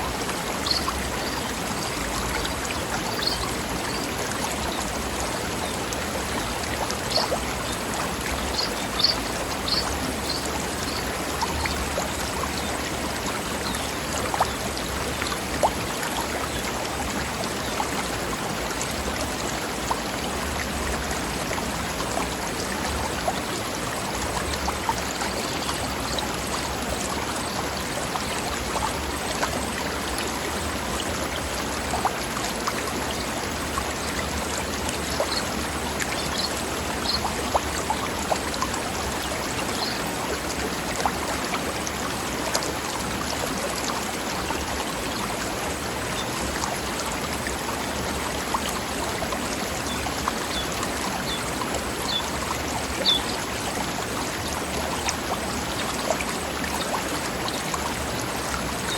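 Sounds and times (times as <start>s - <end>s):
river flowing over rocks: 0.0s - 58.9s.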